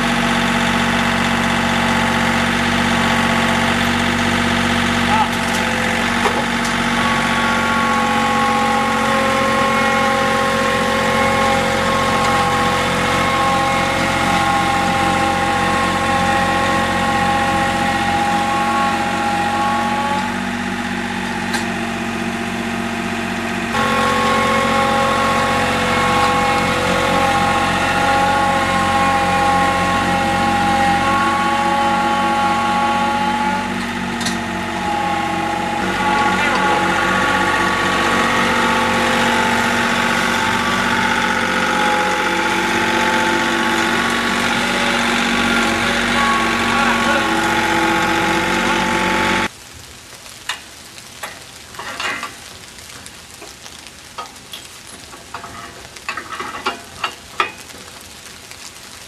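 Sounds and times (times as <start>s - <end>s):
tractor engine running: 0.0s - 49.6s.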